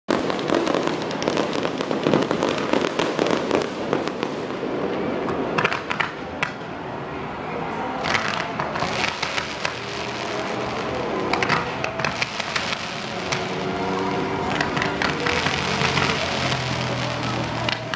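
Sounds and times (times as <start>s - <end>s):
fireworks popping: 0.1s - 6.7s, 8.0s - 17.9s.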